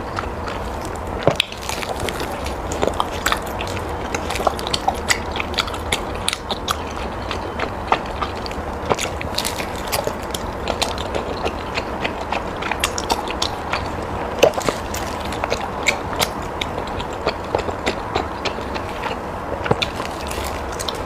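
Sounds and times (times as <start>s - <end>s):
person chewing food: 0.0s - 21.0s
steady low hum: 0.0s - 21.0s.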